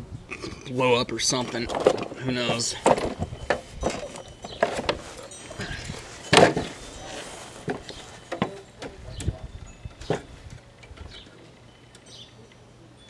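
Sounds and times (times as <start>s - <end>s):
hand tools clicking and knocking: 1.4s - 12.6s.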